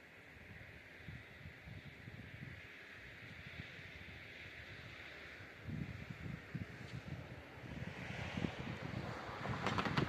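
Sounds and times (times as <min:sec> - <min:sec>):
wind gusting on microphone: 0:00.0 - 0:10.0.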